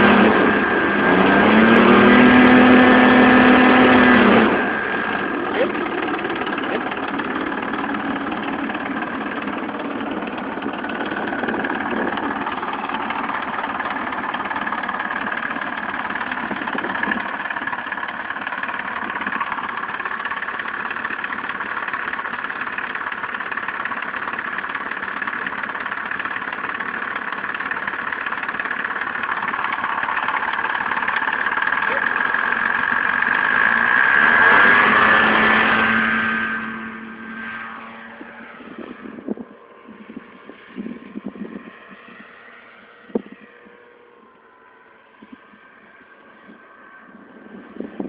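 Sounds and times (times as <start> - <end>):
model airplane motor whining: 0.0 - 48.0.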